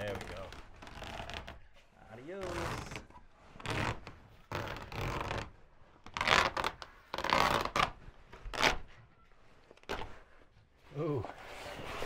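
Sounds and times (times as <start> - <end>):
canvas rustling and scraping: 0.0 - 12.0.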